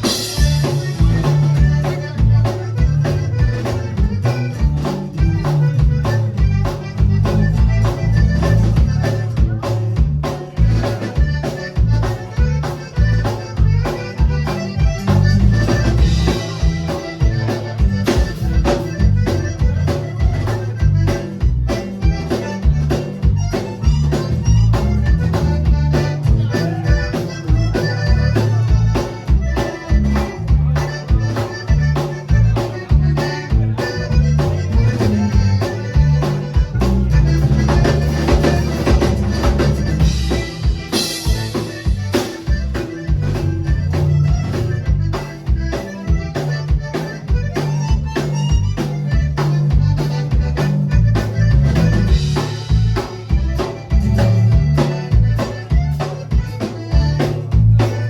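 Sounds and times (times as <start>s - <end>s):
accordion playing: 0.0s - 58.0s
bass: 0.0s - 58.0s
drums: 0.0s - 58.0s.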